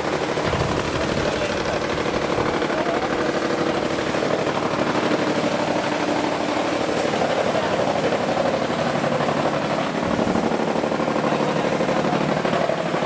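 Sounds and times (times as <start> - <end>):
machine running with rapid pulse: 0.0 - 13.0.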